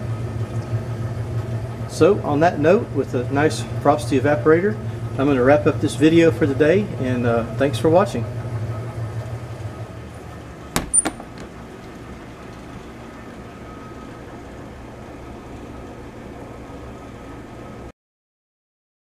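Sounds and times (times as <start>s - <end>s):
refrigerator compressor humming: 0.0s - 17.9s.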